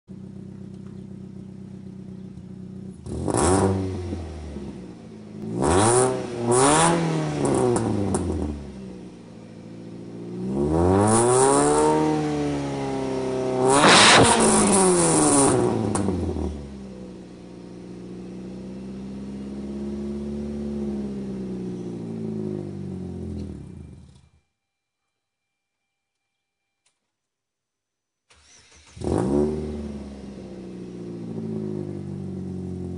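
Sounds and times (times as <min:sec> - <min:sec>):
car engine idling and revving: 0:00.1 - 0:24.4, 0:28.3 - 0:32.9.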